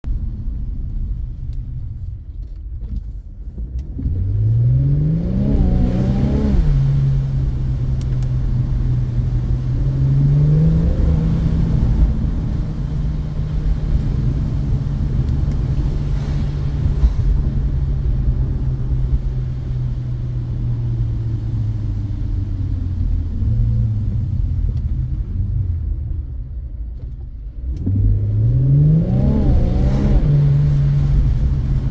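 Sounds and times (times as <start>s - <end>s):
car engine accelerating: 3.5s - 31.9s.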